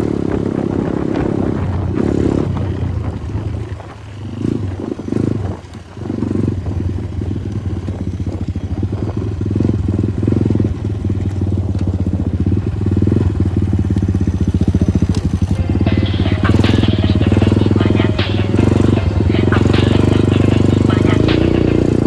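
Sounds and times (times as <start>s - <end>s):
motorcycle engine under throttle: 0.0s - 22.0s.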